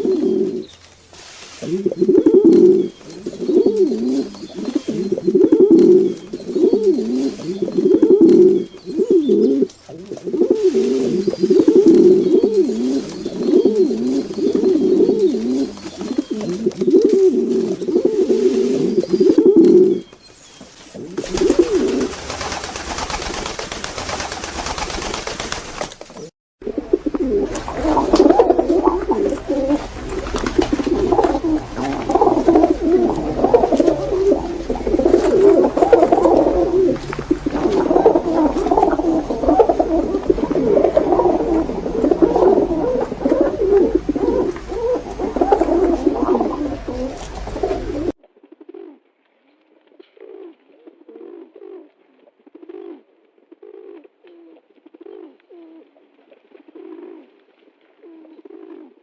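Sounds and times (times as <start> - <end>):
pigeons cooing: 0.0 - 25.5, 26.2 - 49.0, 50.0 - 55.9, 56.5 - 57.3, 58.0 - 59.0.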